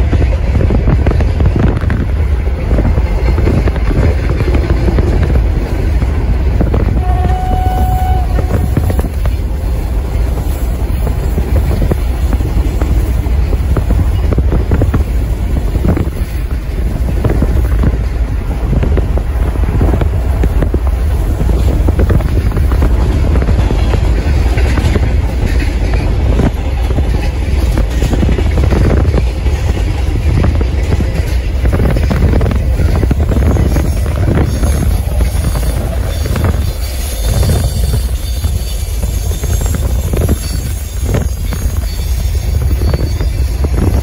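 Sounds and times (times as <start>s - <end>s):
freight train rumbling: 0.0s - 44.0s.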